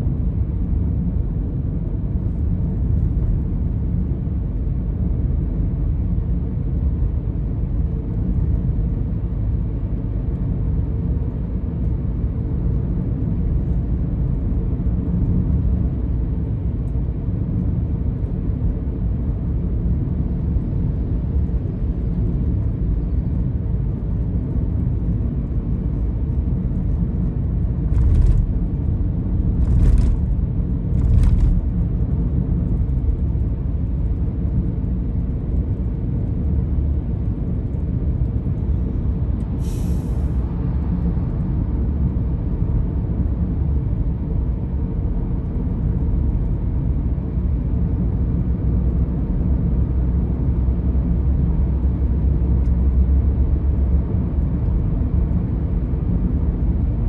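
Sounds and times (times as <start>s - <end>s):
car driving rumble inside cabin: 0.0s - 39.7s, 40.3s - 57.0s.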